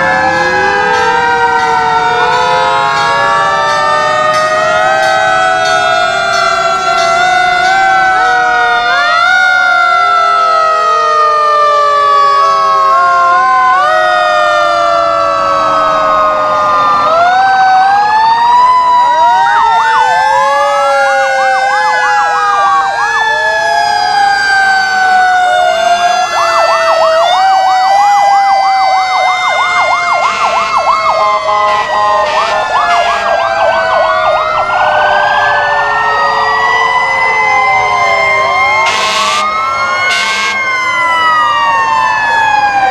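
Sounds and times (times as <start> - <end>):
fire truck sirens wailing: 0.0 - 42.9
yelping siren: 0.0 - 42.9.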